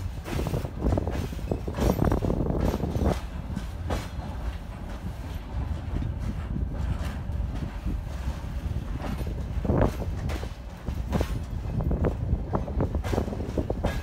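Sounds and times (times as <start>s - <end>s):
train rumble: 0.0s - 14.0s
train wheels clattering on rails: 0.0s - 14.0s.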